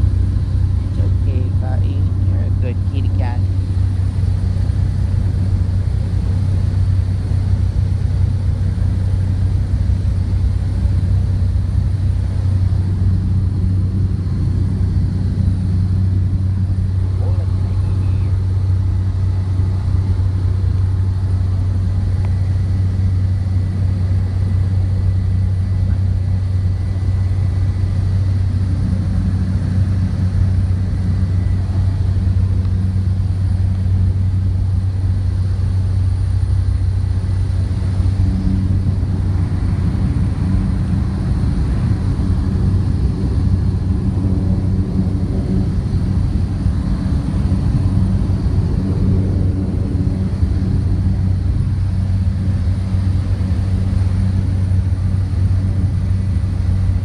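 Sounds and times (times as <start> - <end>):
small plane engine drone: 0.0 - 57.0.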